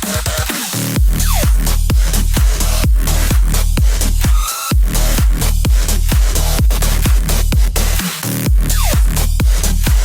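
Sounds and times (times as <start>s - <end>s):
bass-boosted electronic dance music: 0.0s - 10.0s.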